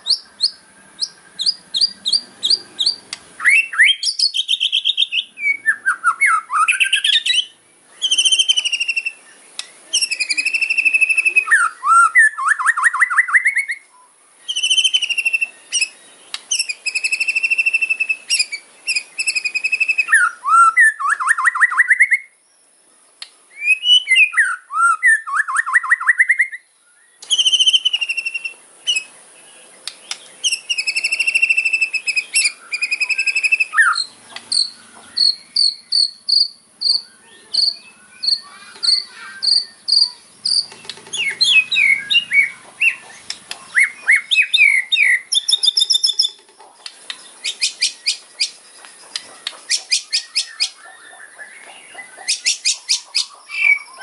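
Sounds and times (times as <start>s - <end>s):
bird singing rattles and whistles: 0.0s - 13.8s, 14.4s - 22.3s, 27.2s - 29.2s, 29.8s - 54.0s.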